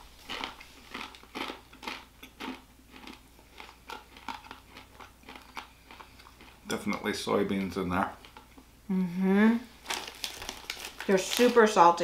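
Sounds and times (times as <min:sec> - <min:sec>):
crunchy food being chewed: 0:00.0 - 0:08.7, 0:09.8 - 0:11.4.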